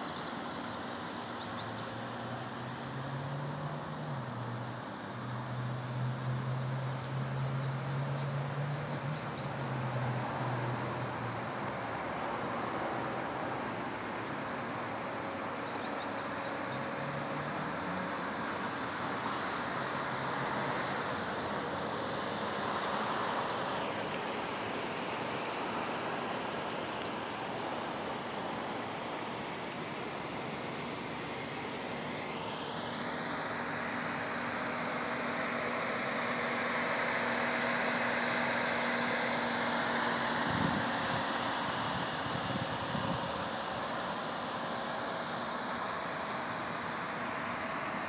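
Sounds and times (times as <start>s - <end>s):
low engine hum: 0.0s - 48.0s
traffic noise: 0.0s - 48.0s.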